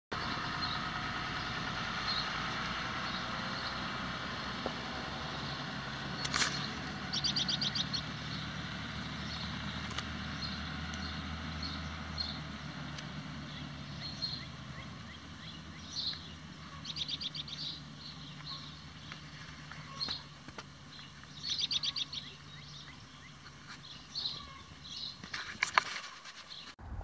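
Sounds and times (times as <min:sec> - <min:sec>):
truck engine running: 0:00.1 - 0:25.8
birds chirping: 0:00.1 - 0:26.8.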